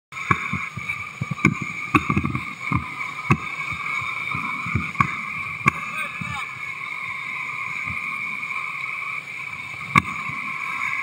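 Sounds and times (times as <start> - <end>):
rushing whitewater: 0.1 - 11.0.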